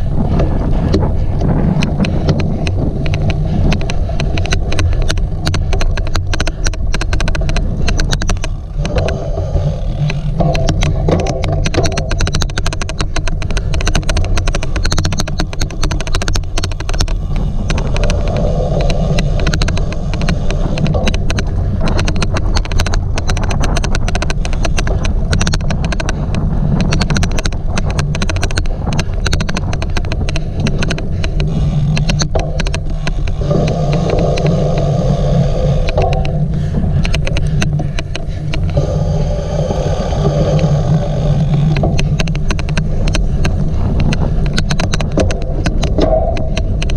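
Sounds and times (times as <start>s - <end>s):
bicycle riding rumble: 0.0s - 46.9s
rapid irregular clicks: 0.0s - 46.9s.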